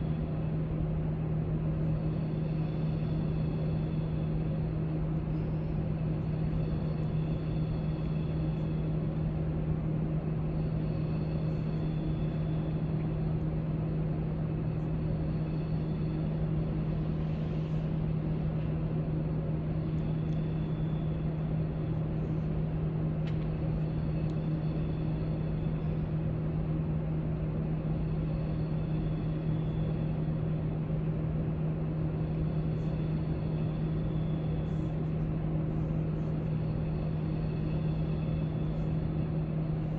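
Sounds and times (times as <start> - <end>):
low room hum: 0.0 - 39.9.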